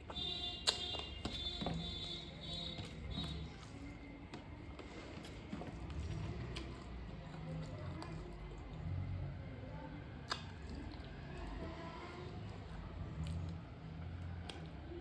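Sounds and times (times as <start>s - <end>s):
person chewing food: 0.0s - 9.2s, 10.2s - 14.9s.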